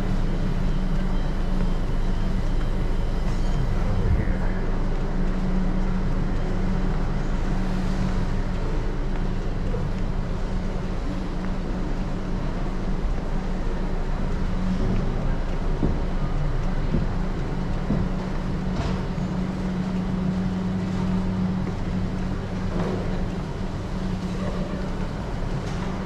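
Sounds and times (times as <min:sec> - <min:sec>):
indoor market hall hum: 0:00.0 - 0:26.0.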